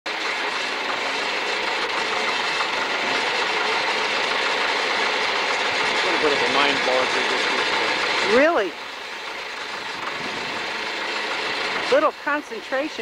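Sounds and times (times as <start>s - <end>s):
backhoe engine idling: 0.1s - 13.0s.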